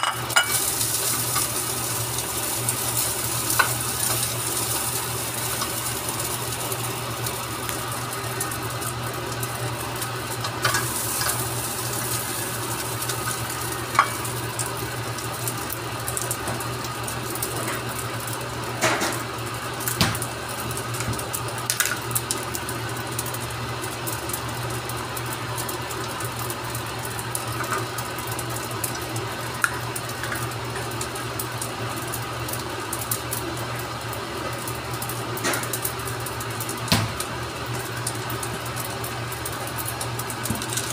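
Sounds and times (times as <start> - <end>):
rice sizzling in a wok: 0.0 - 40.9.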